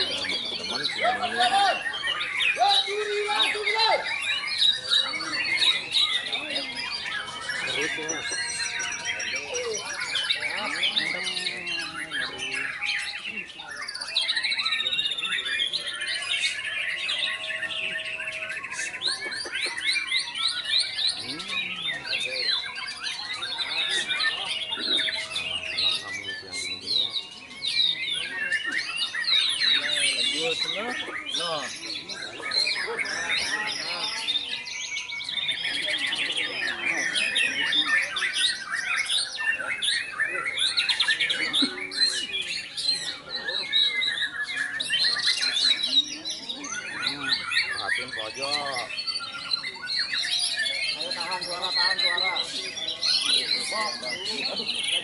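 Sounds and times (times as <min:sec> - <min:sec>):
birds chirping: 0:00.0 - 0:55.0
songbird singing: 0:00.0 - 0:55.0.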